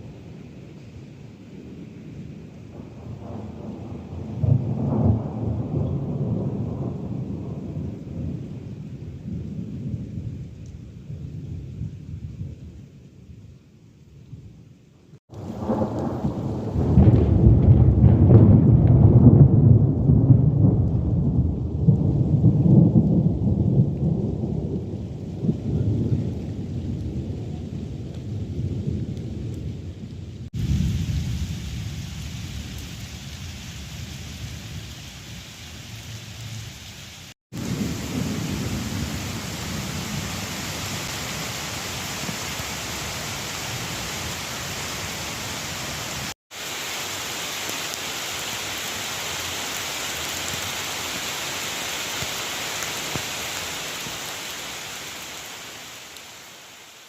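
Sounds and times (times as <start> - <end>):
thunder rumbling: 0.0 - 13.2, 15.3 - 36.7, 37.5 - 56.4
steady rain: 0.0 - 57.0.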